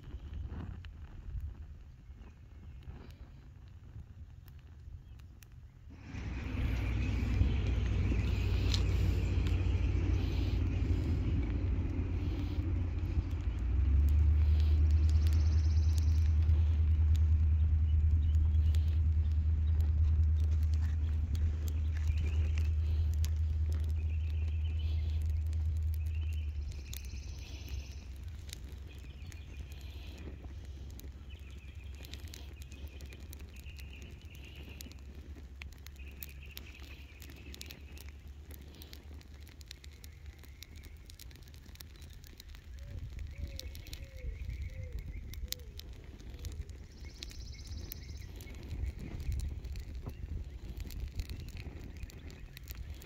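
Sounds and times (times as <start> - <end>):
low rumble: 0.0 - 53.0
mat burning with faint crackle: 0.0 - 53.0
birds calling: 5.9 - 53.0.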